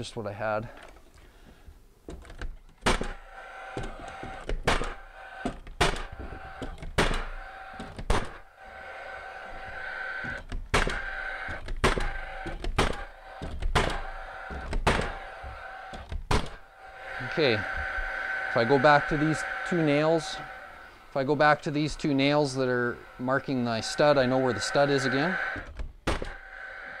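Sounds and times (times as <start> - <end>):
nailer motor whir: 2.8 - 27.0.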